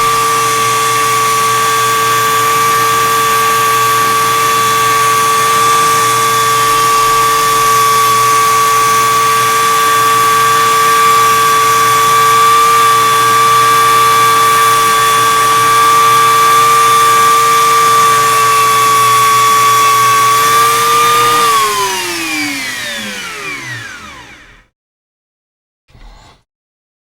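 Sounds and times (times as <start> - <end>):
rotary tool whining: 0.0 - 24.7.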